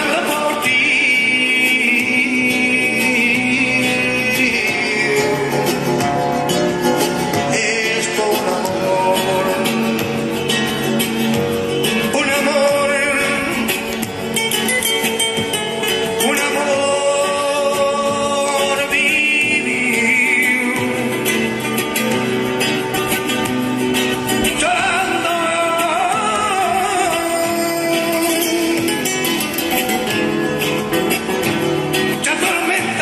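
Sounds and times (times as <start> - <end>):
person singing with vibrato: 0.0 - 14.4, 15.7 - 29.7, 31.9 - 33.0
guitar: 0.0 - 33.0.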